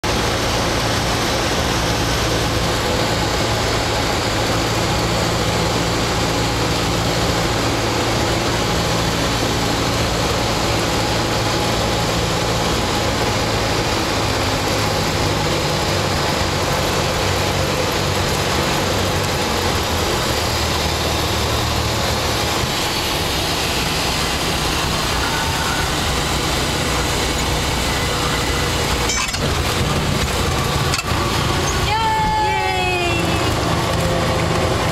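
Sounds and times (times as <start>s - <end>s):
aircraft propeller engine running: 0.0s - 34.9s.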